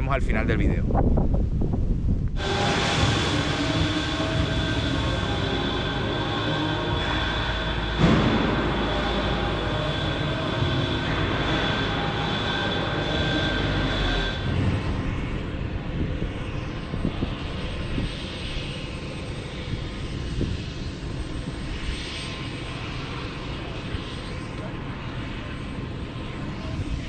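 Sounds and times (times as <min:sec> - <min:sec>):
helicopter turbine engines whining: 0:01.5 - 0:27.0
helicopter rotor noise: 0:02.4 - 0:27.0.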